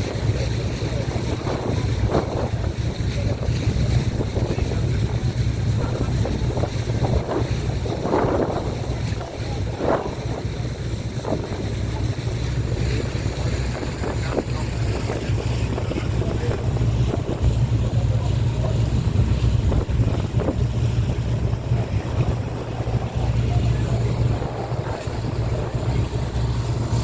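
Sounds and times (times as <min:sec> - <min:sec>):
motorboat engine drone: 0:00.0 - 0:27.0
water rushing along hull: 0:00.0 - 0:27.0
wind buffeting microphone: 0:00.0 - 0:27.0.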